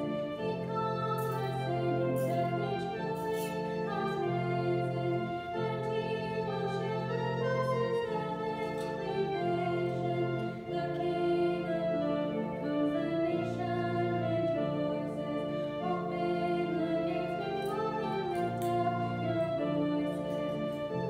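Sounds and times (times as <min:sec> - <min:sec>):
keyboard chords: 0:00.0 - 0:21.0
people singing a hymn: 0:00.0 - 0:21.0.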